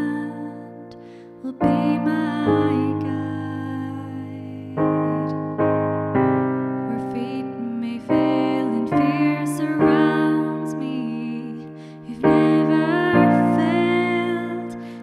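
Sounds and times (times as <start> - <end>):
digital piano chords: 0.0 - 15.0.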